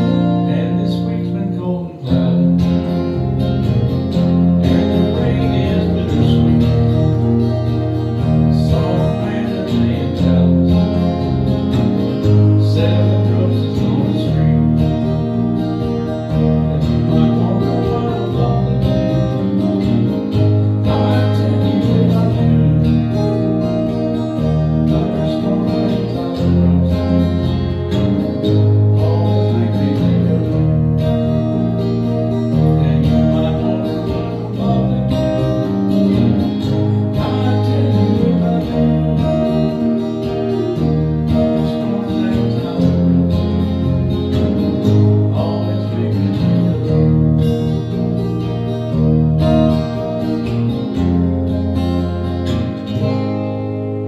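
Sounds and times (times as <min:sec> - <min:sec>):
country band playing live: 0:00.0 - 0:54.0
low bass line: 0:00.0 - 0:54.0
strummed acoustic guitar: 0:00.0 - 0:54.0.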